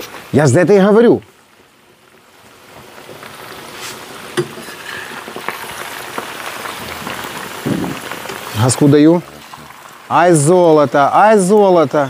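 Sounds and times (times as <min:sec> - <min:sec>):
oil popping and crackling: 0:00.0 - 0:12.0
potatoes sizzling in hot oil: 0:00.0 - 0:12.0.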